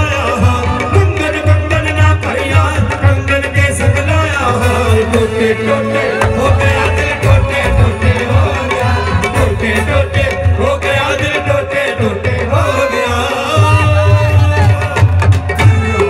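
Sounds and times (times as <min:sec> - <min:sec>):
drum beating heavily: 0:00.0 - 0:16.0
folk music over sound system: 0:00.0 - 0:16.0.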